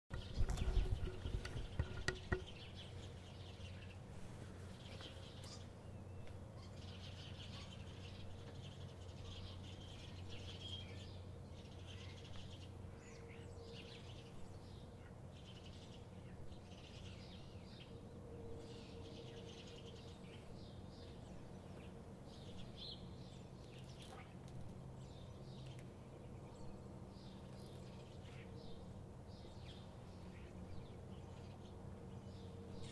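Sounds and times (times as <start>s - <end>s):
low steady hum: 0.1s - 32.9s
small birds chirping: 0.1s - 32.9s.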